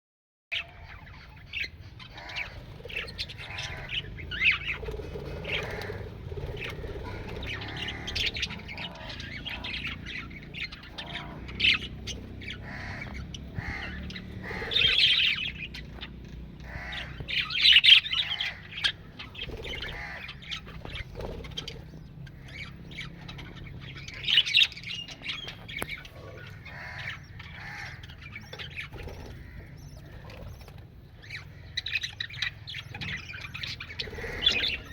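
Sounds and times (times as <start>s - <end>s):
parrots squawking and chattering: 0.6s - 34.9s.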